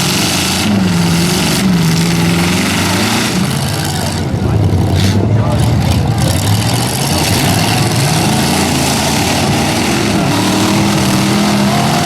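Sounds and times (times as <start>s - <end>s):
several truck engines running: 0.0s - 12.0s.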